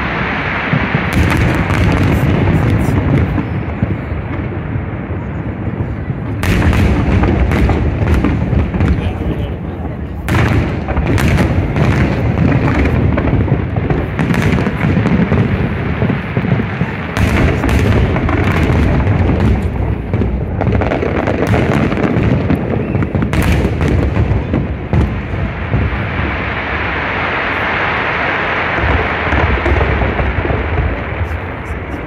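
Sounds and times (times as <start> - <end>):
fireworks hiss: 0.0 - 4.5, 6.4 - 32.0
fireworks booming: 0.0 - 32.0
fireworks cracking: 0.0 - 32.0.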